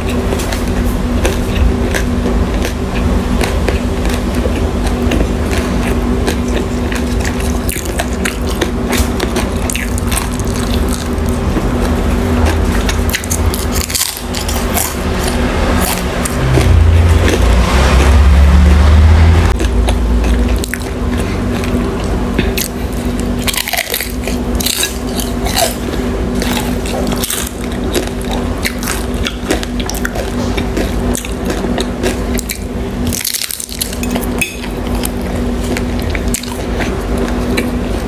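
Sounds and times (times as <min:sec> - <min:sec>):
loud low rumble: 0:00.0 - 0:31.4
chewing food: 0:00.0 - 0:38.0.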